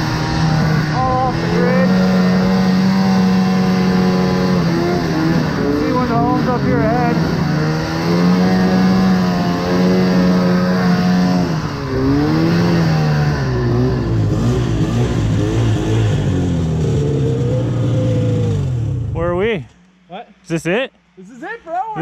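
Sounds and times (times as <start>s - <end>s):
snowmobile engine running: 0.0s - 19.5s.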